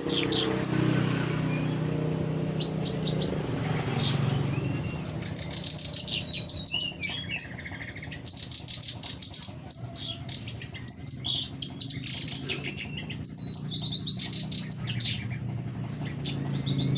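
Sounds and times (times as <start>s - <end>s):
songbirds chirping and trilling: 0.0s - 16.9s.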